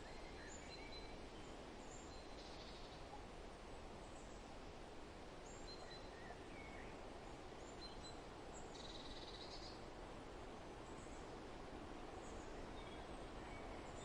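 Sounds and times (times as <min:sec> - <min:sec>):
wind rustling leaves: 0:00.0 - 0:14.0.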